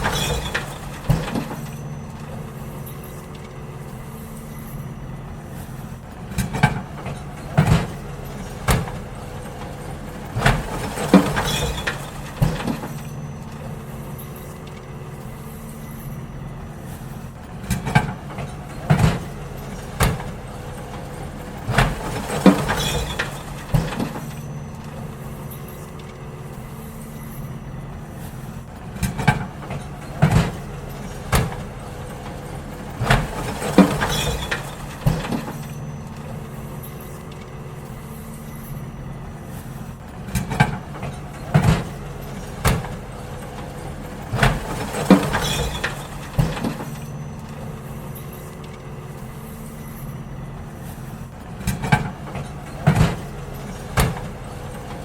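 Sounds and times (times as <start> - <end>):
bins banging and clattering: 0.0 - 55.0
diesel engine running: 0.0 - 55.0.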